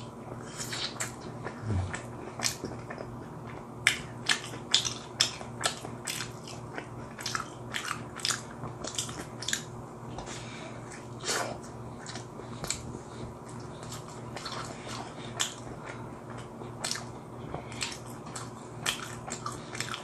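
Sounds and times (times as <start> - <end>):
chewing pizza: 0.0 - 20.0
faint steady hum: 0.0 - 20.0.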